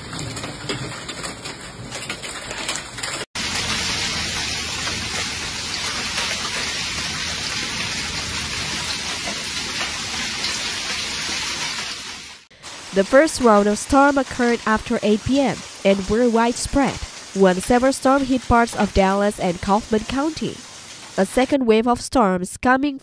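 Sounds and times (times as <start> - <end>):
hail and rain falling hard: 0.0 - 21.3.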